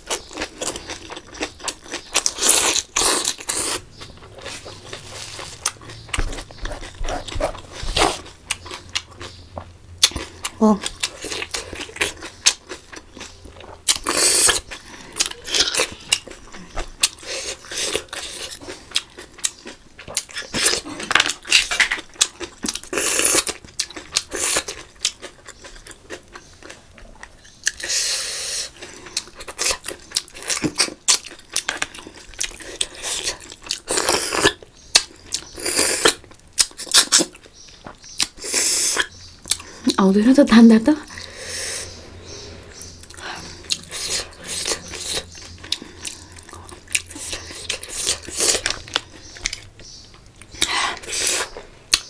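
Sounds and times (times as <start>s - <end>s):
chewing and crunching: 0.0s - 52.0s.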